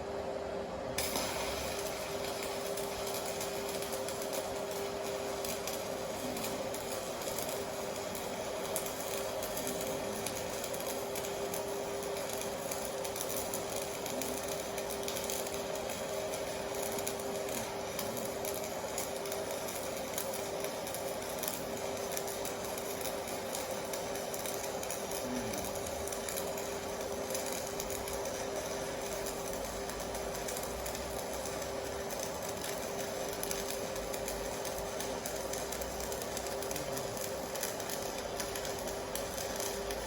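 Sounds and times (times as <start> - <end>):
welding arc tone and hiss: 0.0 - 40.0.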